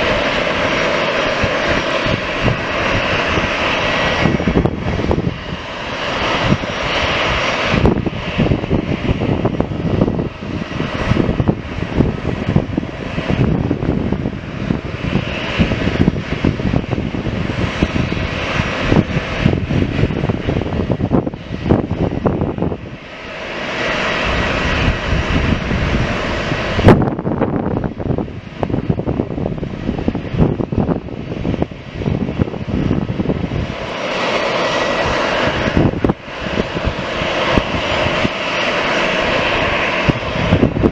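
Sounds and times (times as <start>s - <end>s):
airliner engine noise: 0.0s - 40.9s.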